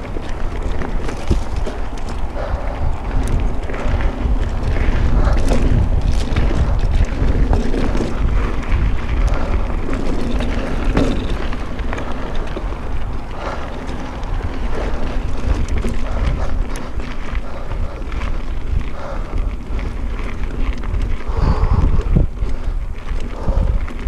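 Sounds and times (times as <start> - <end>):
bike knocks and rattles: 0.0 - 24.0
tyres rushing on dirt trail: 0.0 - 24.0
wind buffeting microphone: 0.0 - 24.0.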